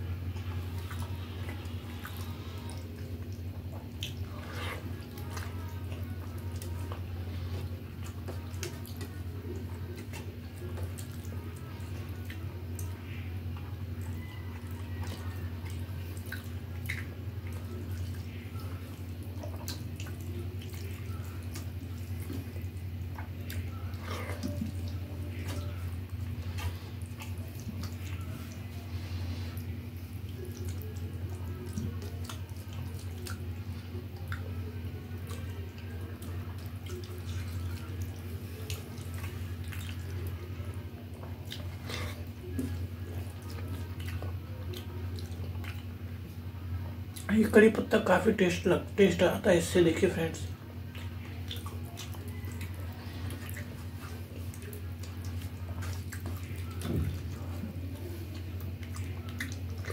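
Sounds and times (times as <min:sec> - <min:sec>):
steady low hum: 0:00.0 - 0:59.9
chewing: 0:00.1 - 0:47.3, 0:50.6 - 0:59.9.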